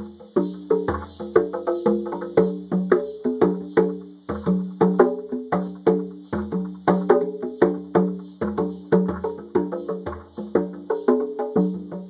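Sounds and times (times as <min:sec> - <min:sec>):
cicadas droning: 0:00.0 - 0:12.0
conga drums played by hand: 0:00.0 - 0:12.0.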